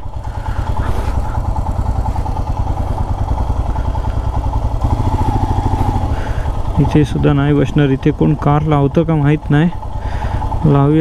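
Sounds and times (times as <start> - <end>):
motorcycle engine chugging: 0.0 - 11.0.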